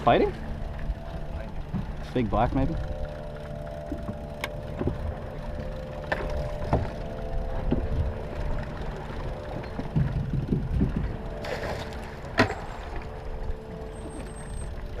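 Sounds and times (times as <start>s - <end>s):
boat engine idling: 0.0s - 15.0s
gear knocking against boat: 0.0s - 15.0s
mid-pitched hum: 0.0s - 15.0s.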